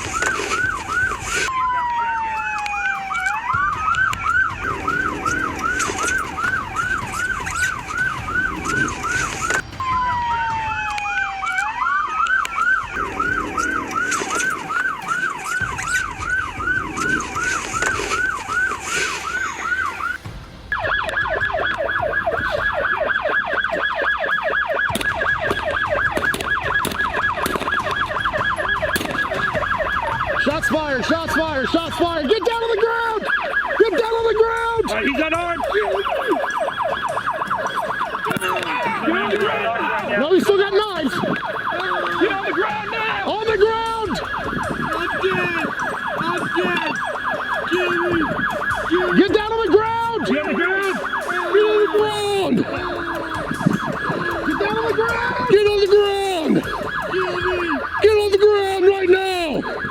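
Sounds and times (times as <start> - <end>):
falling and rising siren sweep: 0.0 - 59.9
police siren yelp: 0.0 - 59.9.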